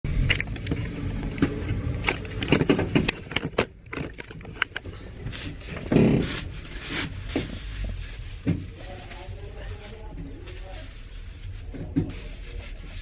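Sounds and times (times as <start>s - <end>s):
diesel engine rumble: 0.0s - 10.7s.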